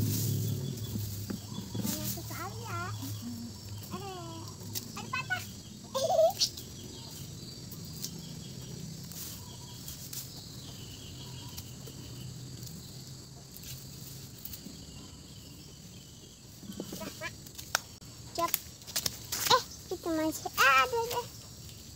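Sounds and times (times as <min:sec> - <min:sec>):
birds calling: 0:00.0 - 0:18.4.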